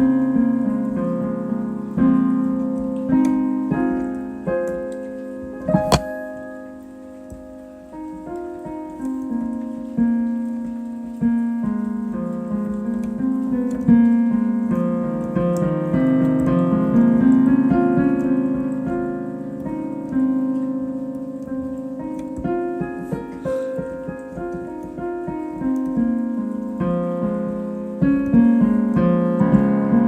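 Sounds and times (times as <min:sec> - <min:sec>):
solo piano: 0:00.0 - 0:30.0.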